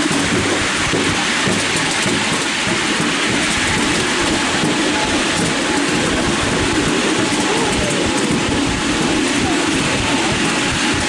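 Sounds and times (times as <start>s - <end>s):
miniature train rumbling and rattling: 0.0s - 11.0s.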